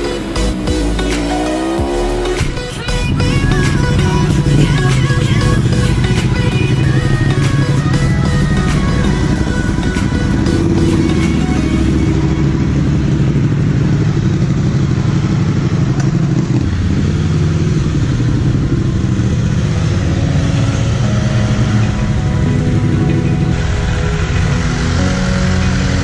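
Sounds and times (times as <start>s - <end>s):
motorcycle engines at low revs: 0.0s - 26.0s.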